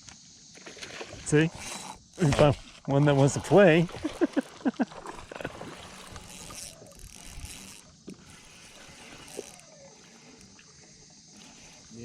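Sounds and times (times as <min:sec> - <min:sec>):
water around a boat: 0:00.0 - 0:12.0.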